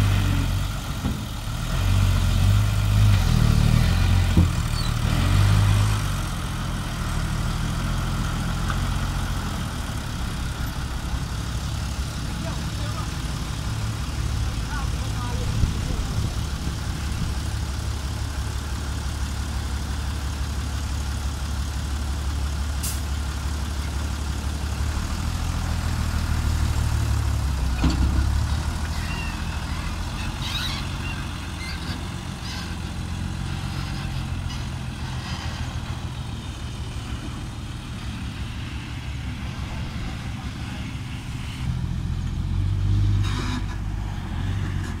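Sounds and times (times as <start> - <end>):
diesel truck engine: 0.0 - 45.0.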